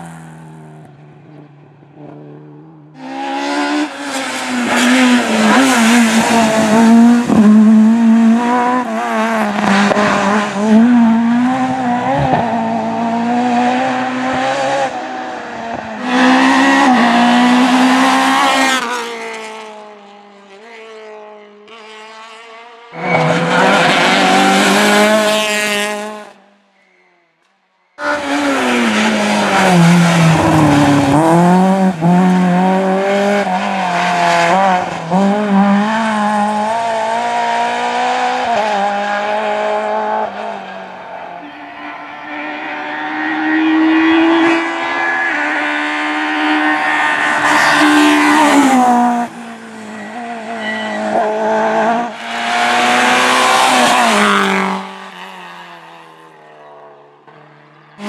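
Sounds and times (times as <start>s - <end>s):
rally car engines revving: 0.0s - 27.0s, 28.0s - 58.0s.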